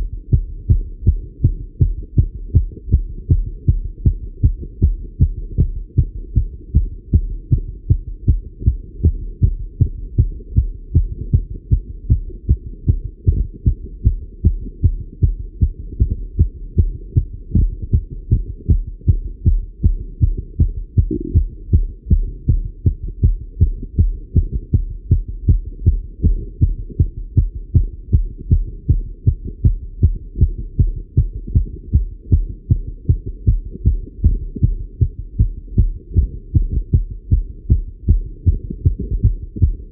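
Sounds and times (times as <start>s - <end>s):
fast heartbeat through stethoscope: 0.0s - 39.9s.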